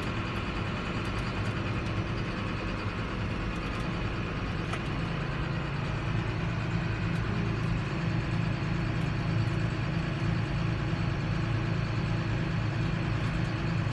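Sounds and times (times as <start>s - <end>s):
tractor diesel engine droning: 0.0s - 13.9s.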